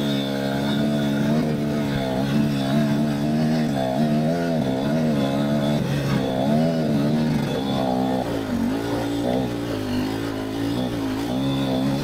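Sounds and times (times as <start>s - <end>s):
two-stroke dirt bike engine revving: 0.0s - 12.0s.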